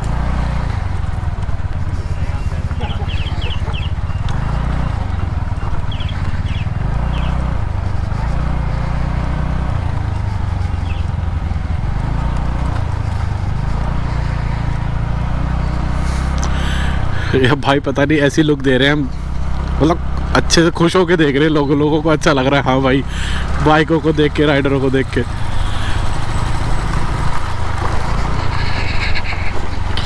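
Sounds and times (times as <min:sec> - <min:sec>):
scooter engine revving: 0:00.0 - 0:30.0.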